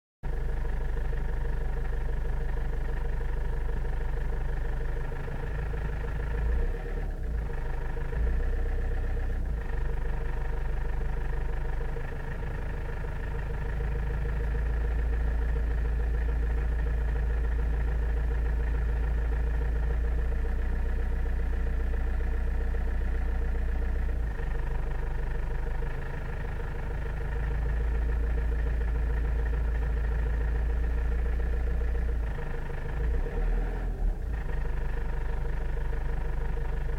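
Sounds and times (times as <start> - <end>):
car engine droning at low rpm: 0.2 - 36.9.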